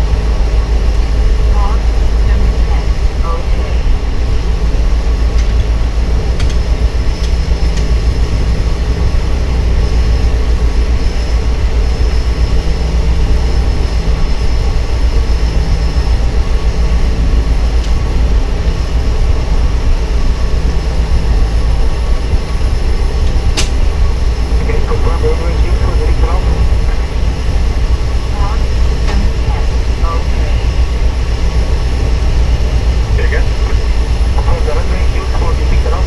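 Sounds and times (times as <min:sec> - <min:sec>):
faint high whine: 0:00.0 - 0:36.0
turboprop engine drone: 0:00.0 - 0:36.0.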